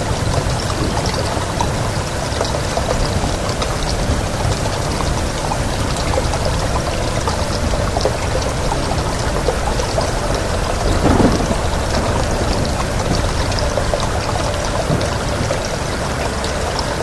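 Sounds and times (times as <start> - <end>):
heavy rain pattering: 0.0 - 17.0
wind rumble: 0.0 - 17.0.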